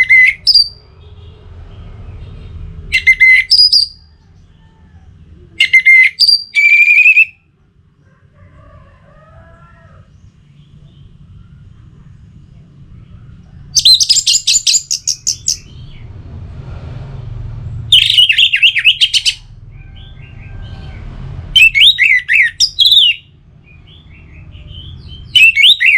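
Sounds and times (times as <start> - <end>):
low background hum: 0.0 - 25.9.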